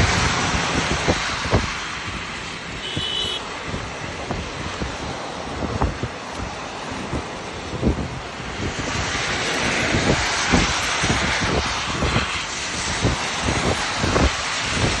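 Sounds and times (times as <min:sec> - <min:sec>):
heavy rain hissing: 0:00.0 - 0:15.0
wind buffeting microphone: 0:00.0 - 0:15.0.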